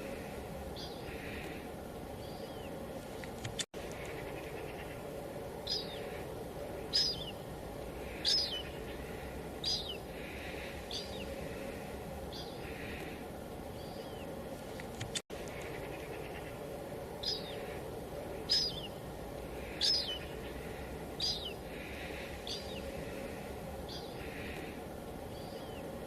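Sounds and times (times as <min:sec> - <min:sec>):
bird calling: 0:00.0 - 0:26.0
light drizzle hissing: 0:00.0 - 0:26.0.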